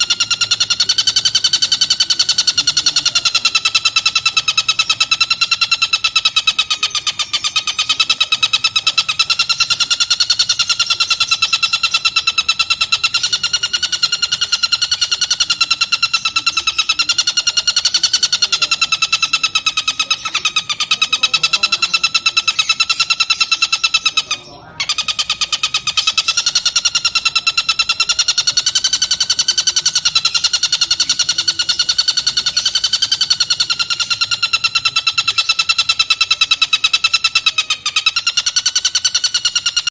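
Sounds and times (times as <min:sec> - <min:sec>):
kingfisher rattling trill: 0:00.0 - 0:39.9.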